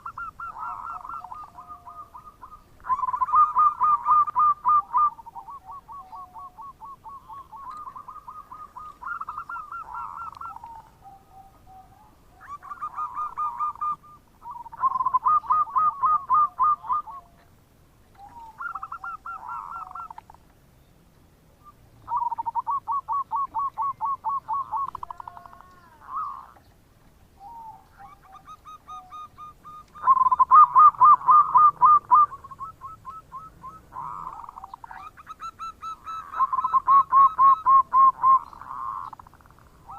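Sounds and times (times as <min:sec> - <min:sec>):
dove cooing: 0:00.0 - 0:17.5, 0:18.1 - 0:20.4, 0:21.6 - 0:26.7, 0:27.4 - 0:39.9.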